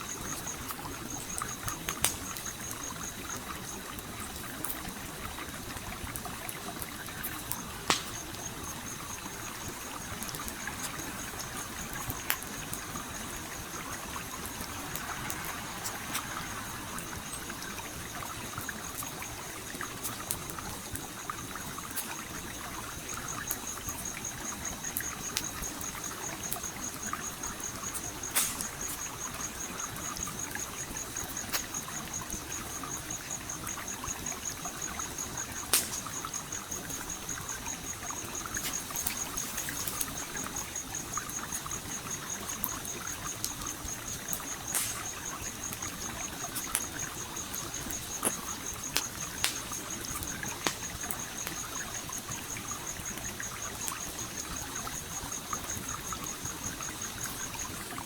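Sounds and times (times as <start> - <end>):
campfire crackling and popping: 0.0 - 57.9
stream water flowing: 0.0 - 58.0.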